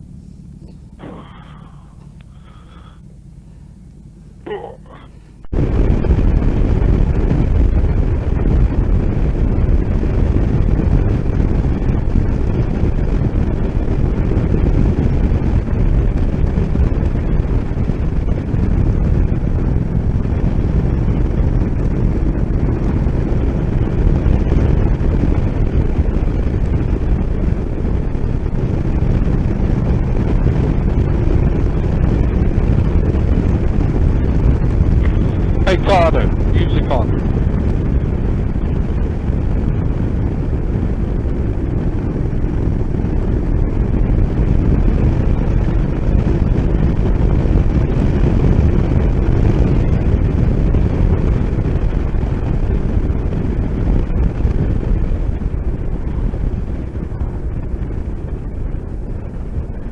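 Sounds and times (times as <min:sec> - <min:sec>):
road noise: 0:00.0 - 0:59.9
wind buffeting microphone: 0:04.9 - 0:59.9.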